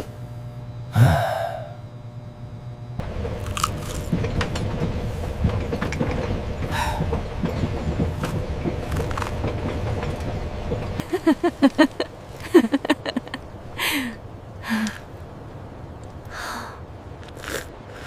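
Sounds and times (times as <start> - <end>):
train rolling on rails: 3.0 - 18.0.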